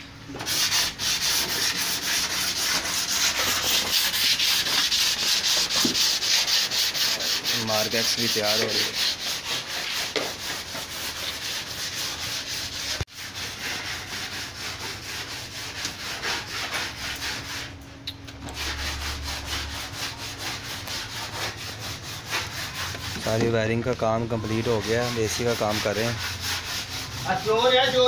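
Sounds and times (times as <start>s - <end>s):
sanding rasping strokes: 0.4s - 17.8s, 18.5s - 28.0s.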